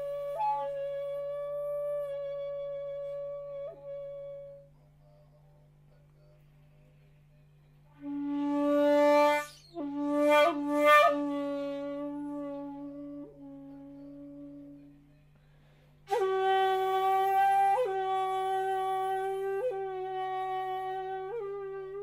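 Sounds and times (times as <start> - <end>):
shakuhachi long notes: 0.0 - 5.6, 7.9 - 22.0.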